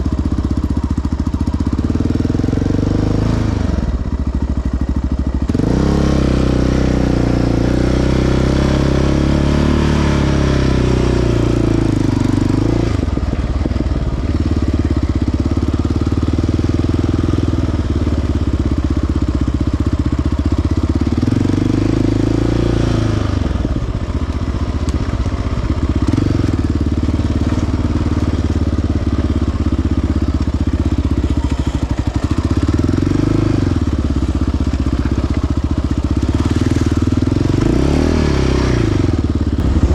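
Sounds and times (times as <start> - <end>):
quad engine revving: 0.0 - 4.1, 5.4 - 39.9.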